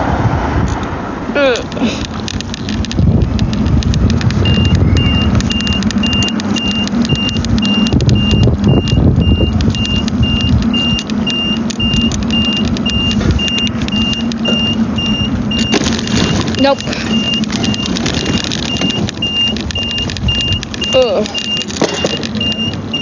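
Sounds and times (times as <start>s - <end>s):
bus engine hum and rumble: 0.0s - 23.0s
light rattles and clicks: 1.7s - 14.7s, 15.5s - 23.0s
high electronic beeps: 4.4s - 23.0s.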